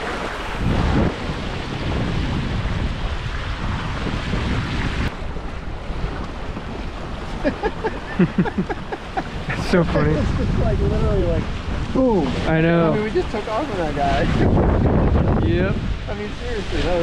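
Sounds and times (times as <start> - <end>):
water rushing along hulls: 0.0 - 17.0
wind buffeting microphone: 0.0 - 17.0.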